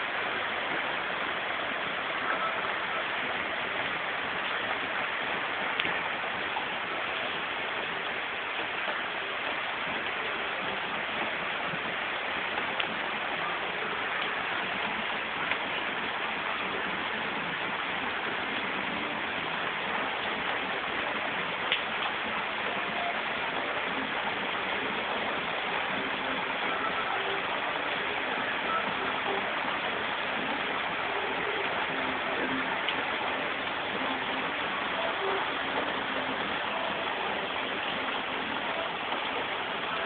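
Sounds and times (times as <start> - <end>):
heavy rain on stone paving: 0.0 - 40.0.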